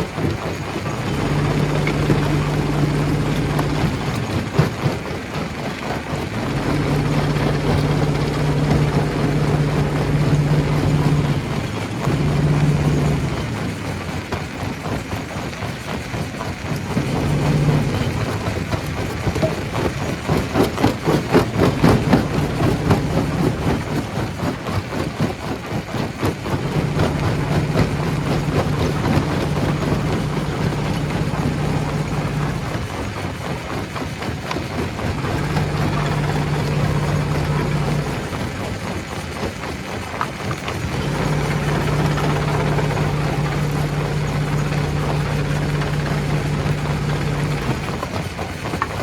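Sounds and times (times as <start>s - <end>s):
low motor hum: 0.0s - 49.0s
rock knocking and rattling: 0.0s - 49.0s.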